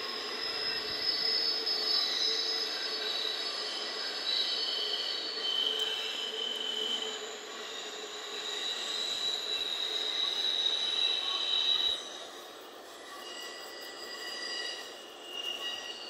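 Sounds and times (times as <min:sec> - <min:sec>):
train wheels squealing: 0:00.0 - 0:16.0.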